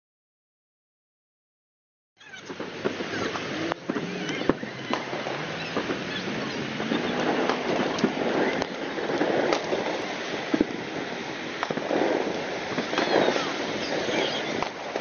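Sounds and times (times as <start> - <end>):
crowd noise: 2.2 - 15.0
fireworks bangs and crackles: 2.2 - 15.0.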